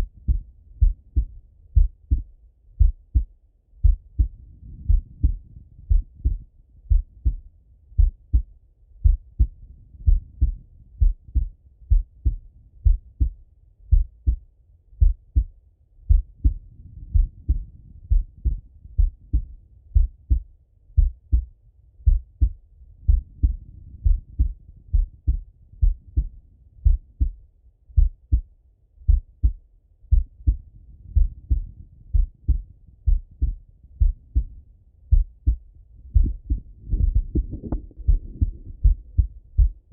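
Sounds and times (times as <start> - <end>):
heartbeat double thump: 0.0 - 7.4, 8.0 - 15.5, 16.1 - 27.4, 28.0 - 30.6, 31.2 - 39.9.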